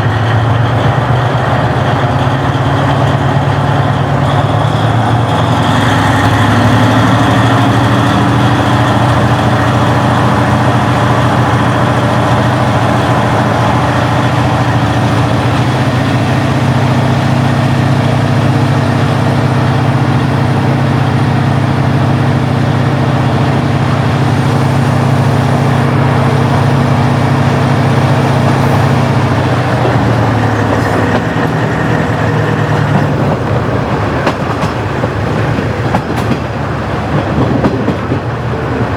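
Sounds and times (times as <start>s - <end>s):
diesel railcar engine running: 0.0s - 38.9s.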